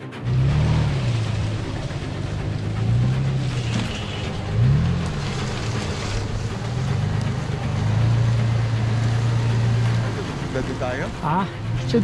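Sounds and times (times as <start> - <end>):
off-road engine revving: 0.0 - 12.0.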